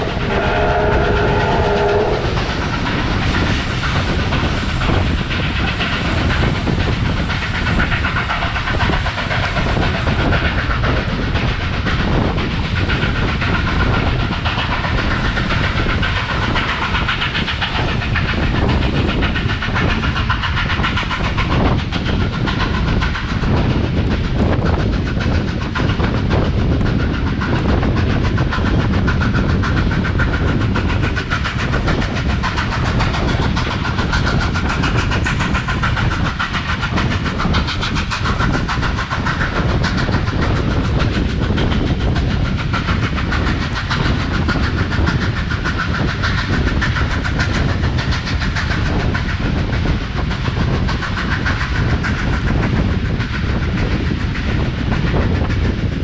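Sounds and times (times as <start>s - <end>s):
train wheels clickety-clack on rails: 0.0s - 56.0s.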